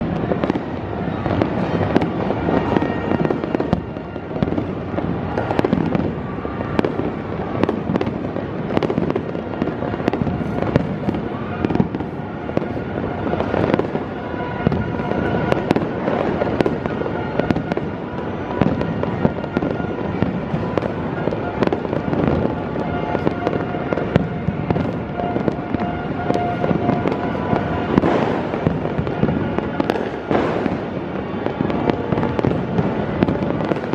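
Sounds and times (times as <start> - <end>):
fireworks and firecrackers: 0.0 - 33.9.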